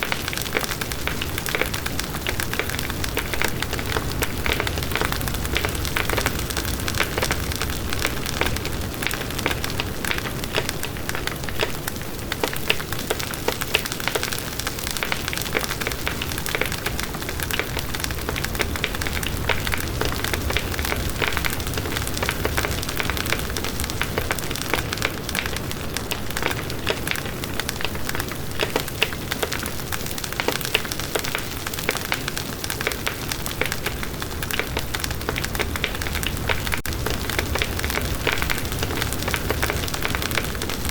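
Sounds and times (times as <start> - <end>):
campfire wood crackling: 0.0 - 40.9
low rumble of flames: 0.0 - 40.9.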